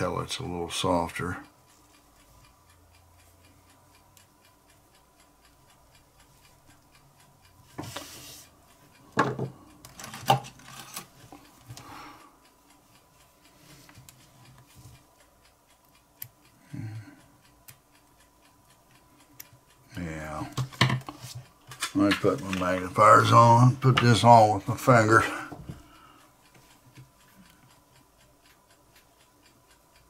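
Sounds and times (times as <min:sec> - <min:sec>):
faint steady ticking: 0:00.0 - 0:30.0.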